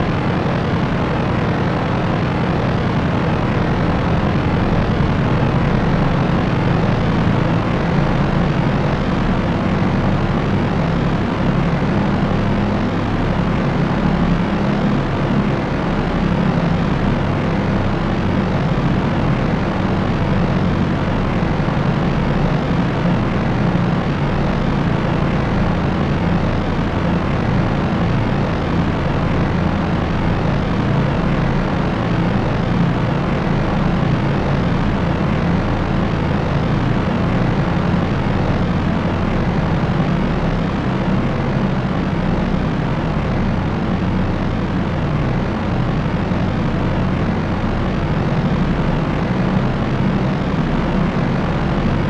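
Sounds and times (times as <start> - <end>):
propeller aircraft engine drone: 0.0 - 52.0.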